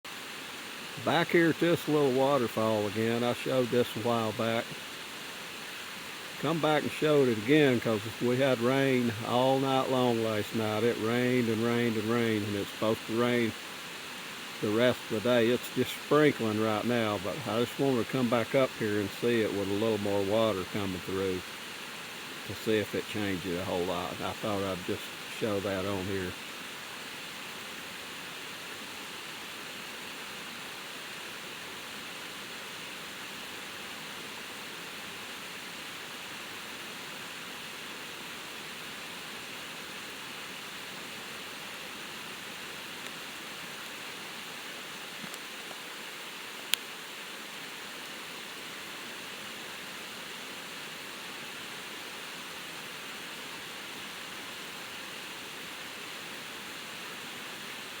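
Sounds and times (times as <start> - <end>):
waterfall rushing: 0.1 - 58.0.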